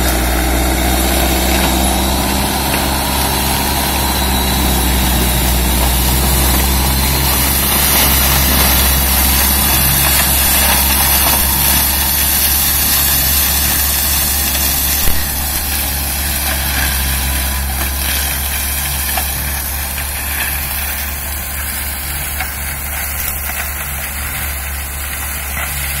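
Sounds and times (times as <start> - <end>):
mulcher shredding brush: 0.0 - 26.0
tractor diesel engine running: 0.0 - 26.0.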